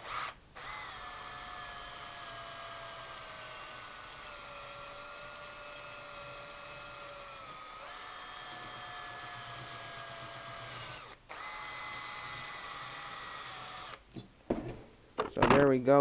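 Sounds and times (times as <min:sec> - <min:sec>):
power drill motor whine: 0:00.0 - 0:14.0.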